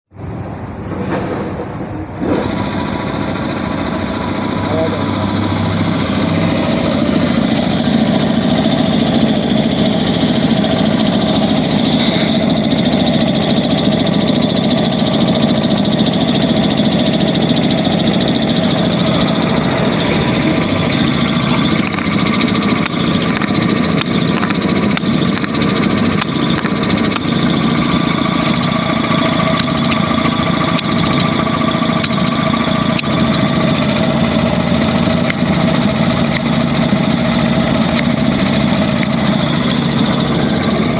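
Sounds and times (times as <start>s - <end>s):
air compressor running: 2.2s - 40.9s.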